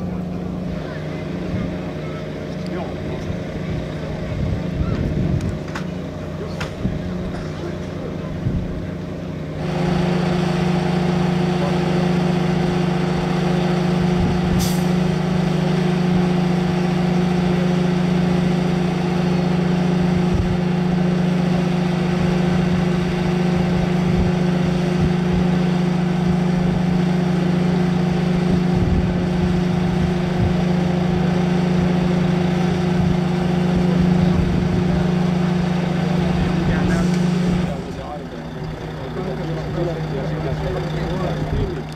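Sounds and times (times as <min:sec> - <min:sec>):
truck engine droning: 0:00.0 - 0:41.9.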